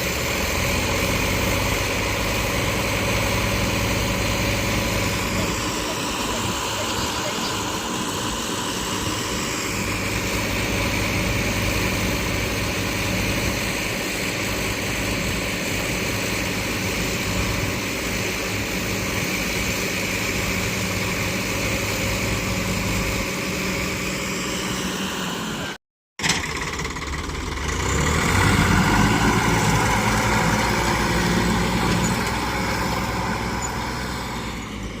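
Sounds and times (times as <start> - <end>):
tractor engine running: 0.0 - 25.6, 26.2 - 35.0.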